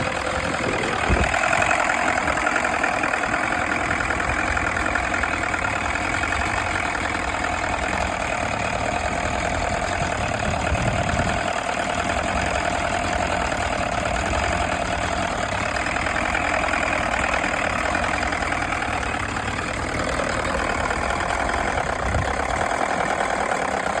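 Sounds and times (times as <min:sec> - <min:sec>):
outboard motor idling: 0:00.0 - 0:24.0.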